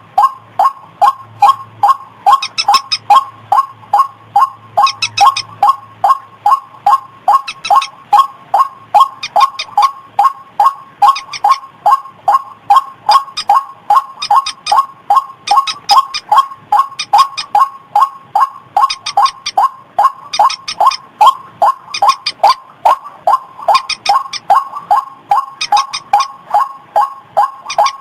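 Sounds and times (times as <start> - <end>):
waterhen calling: 0.0 - 28.0
sharp clicky bird notes: 0.2 - 28.0.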